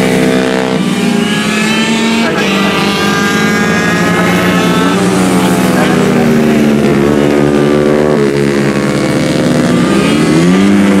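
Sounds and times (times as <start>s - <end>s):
racing motorcycle engines revving: 0.0s - 11.0s.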